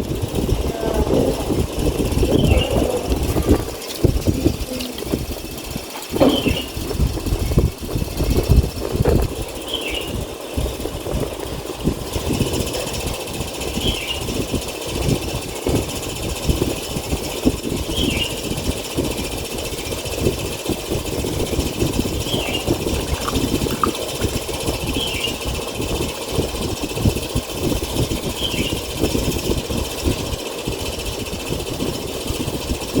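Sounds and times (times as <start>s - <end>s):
rumbling machine noise: 0.0s - 33.0s.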